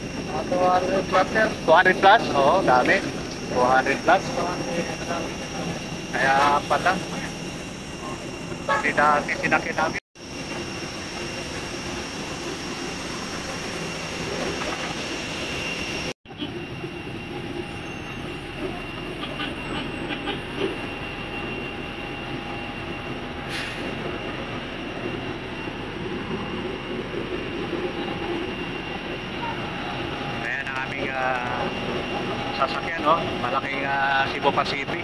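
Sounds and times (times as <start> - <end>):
high-pitched jet whine: 0.0 - 35.0
jet airliner rushing hum: 0.0 - 35.0.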